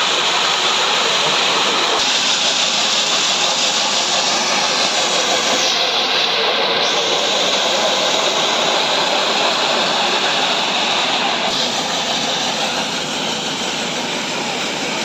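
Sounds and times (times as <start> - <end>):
road paving machine running: 0.0 - 15.0.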